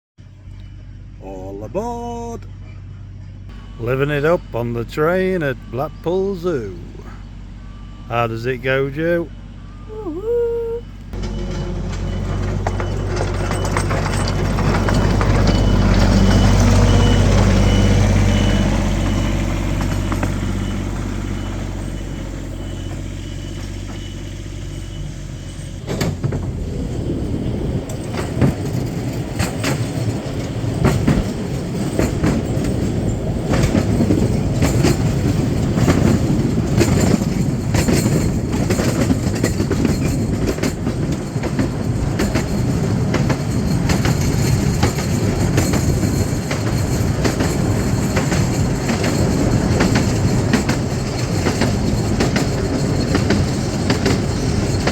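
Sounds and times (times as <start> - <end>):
train engine hum: 0.2 - 54.9
wheels clattering on track: 10.9 - 54.9.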